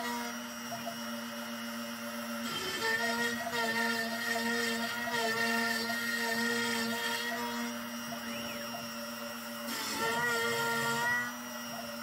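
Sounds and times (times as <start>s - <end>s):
router bit cutting wood: 0.0s - 12.0s
router motor whining: 0.0s - 12.0s.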